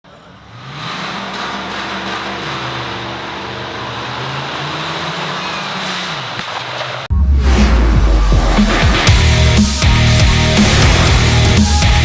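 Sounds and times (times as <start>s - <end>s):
engine revving: 0.2s - 12.0s.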